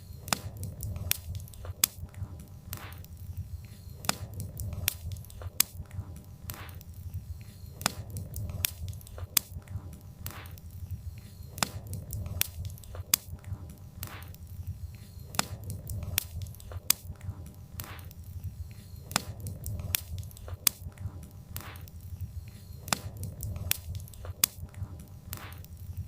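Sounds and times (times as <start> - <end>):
low steady rumble: 0.0 - 22.6
wood fire crackling: 0.0 - 26.0.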